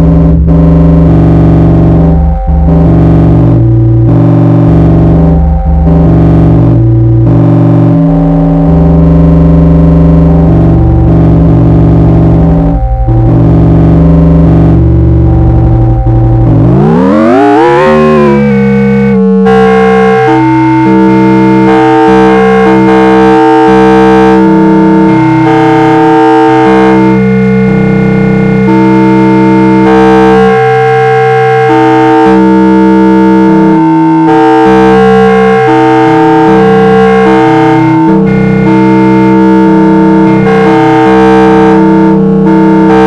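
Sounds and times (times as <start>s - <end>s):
synthesizer tones: 0.0s - 43.0s.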